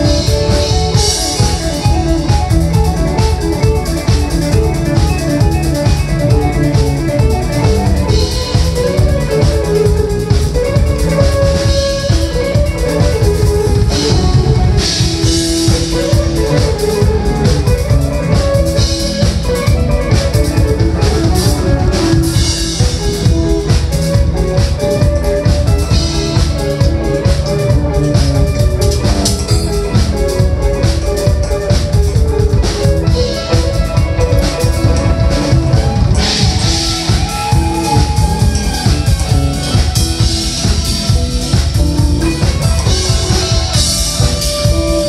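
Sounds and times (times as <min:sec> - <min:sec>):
drum kit: 0:00.0 - 0:45.0
electric guitar: 0:00.0 - 0:45.0.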